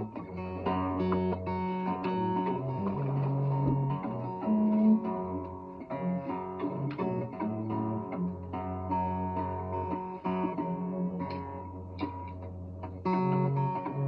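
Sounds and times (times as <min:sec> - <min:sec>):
acoustic guitar picking blues: 0:00.0 - 0:14.0.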